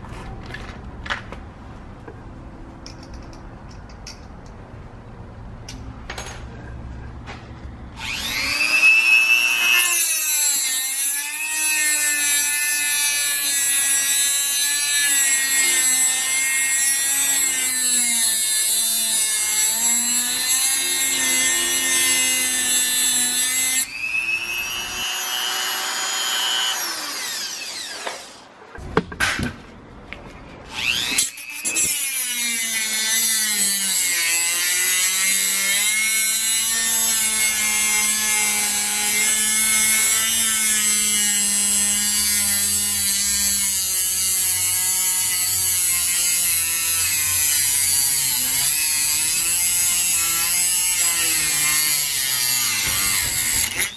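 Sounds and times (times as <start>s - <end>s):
rotary tool cutting wheel whine: 8.0s - 28.5s, 30.7s - 53.9s.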